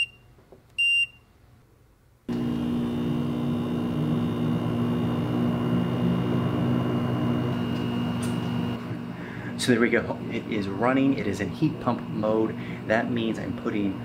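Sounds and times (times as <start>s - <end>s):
water heater compressor and fan humming: 2.3s - 14.0s.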